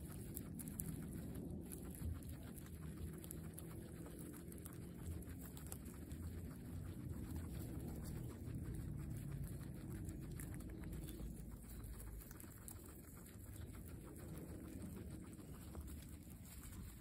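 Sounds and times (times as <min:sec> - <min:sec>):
guinea pigs chewing grass: 0:00.0 - 0:17.0
low rumble: 0:00.0 - 0:17.0.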